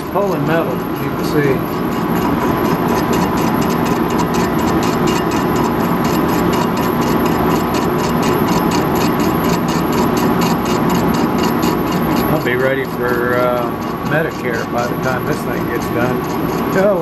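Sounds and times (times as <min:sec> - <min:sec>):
even ticking: 0:00.0 - 0:17.0
metal lathe cutting steel: 0:00.0 - 0:17.0.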